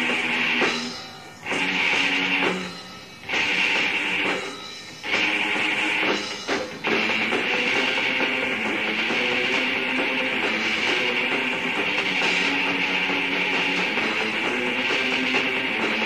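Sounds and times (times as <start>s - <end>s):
distorted electric guitars: 0.0s - 16.0s
drums: 0.0s - 16.0s.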